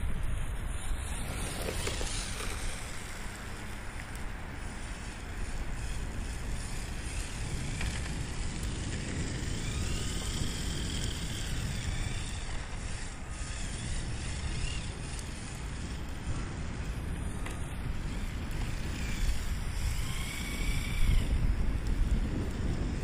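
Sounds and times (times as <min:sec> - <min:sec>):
rc car electric motor whine: 0:00.0 - 0:23.0
wind rumble on microphone: 0:00.0 - 0:23.0.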